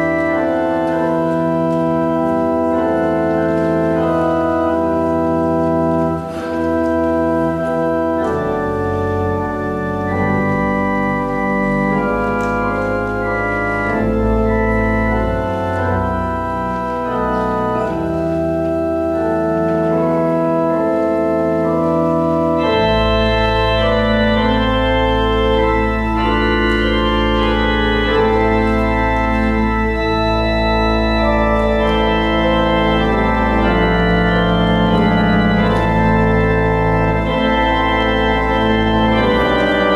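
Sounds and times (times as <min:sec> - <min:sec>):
organ playing sustained chords: 0:00.0 - 0:39.9.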